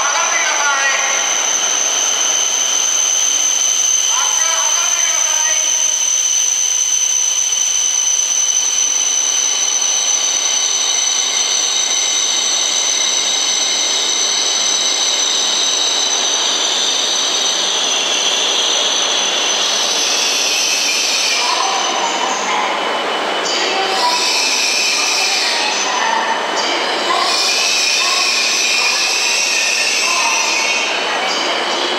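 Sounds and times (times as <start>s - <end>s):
train electrical whine: 0.0s - 31.9s
train rushing hiss: 0.0s - 31.9s.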